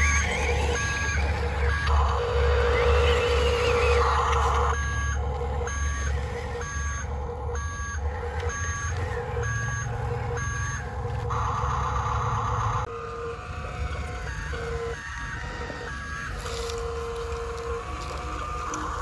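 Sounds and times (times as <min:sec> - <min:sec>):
electronic reversing beeper: 0:00.0 - 0:19.0.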